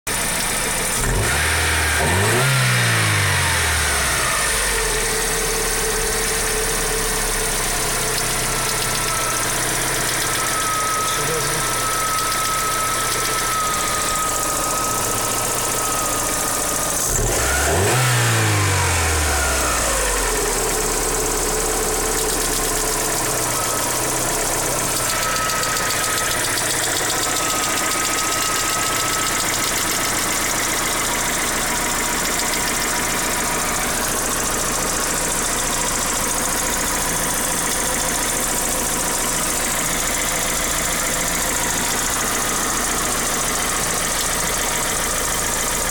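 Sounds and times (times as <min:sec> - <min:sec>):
car engine idling and revving: 0:00.1 - 0:45.9.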